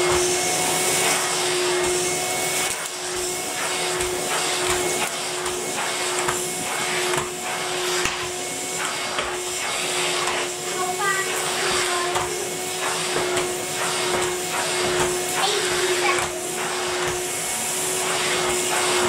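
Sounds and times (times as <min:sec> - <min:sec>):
vacuum cleaner motor hum: 0:00.0 - 0:19.0
vacuum floor tool swishing on carpet: 0:00.0 - 0:19.0.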